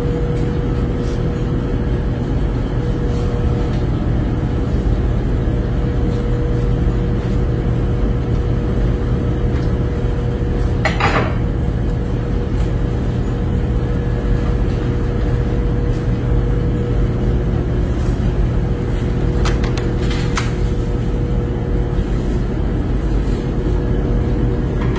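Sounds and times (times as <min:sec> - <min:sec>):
machine and fan hum: 0:00.0 - 0:24.9.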